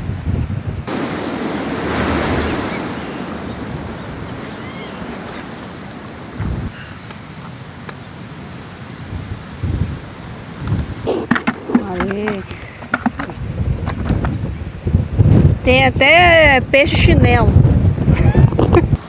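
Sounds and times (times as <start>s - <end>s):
wind buffeting microphone: 0.0s - 7.4s, 9.0s - 19.0s.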